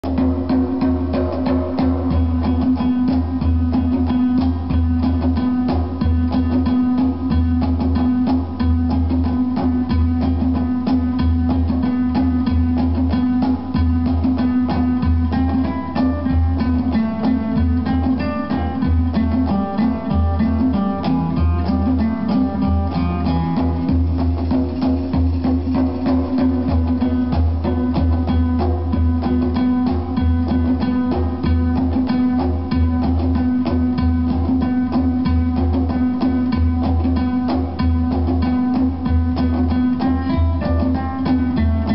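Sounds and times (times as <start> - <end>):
guitar-led music with drums and bass: 0.0 - 41.9.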